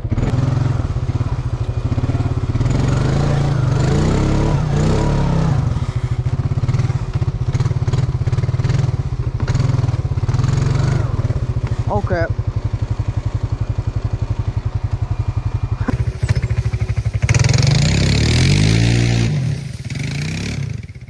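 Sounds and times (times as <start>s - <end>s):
vehicle engine revving: 0.0s - 21.0s.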